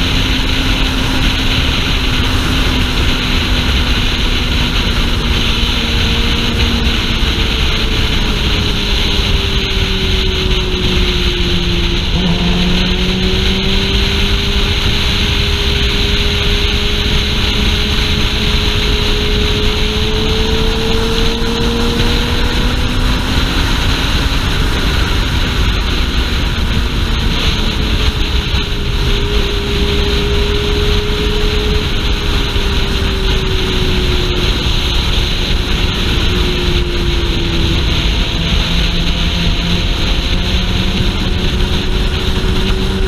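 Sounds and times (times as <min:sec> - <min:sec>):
motorcycle engine cruising: 0:00.0 - 0:43.0
wind noise on microphone: 0:00.0 - 0:43.0.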